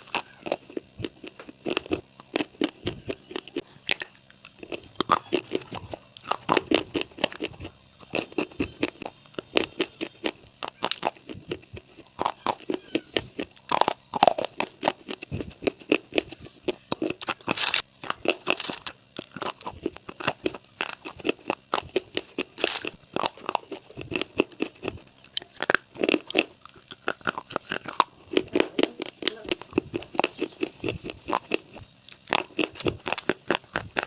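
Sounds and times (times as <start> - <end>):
crunchy food being chewed: 0.0 - 34.0.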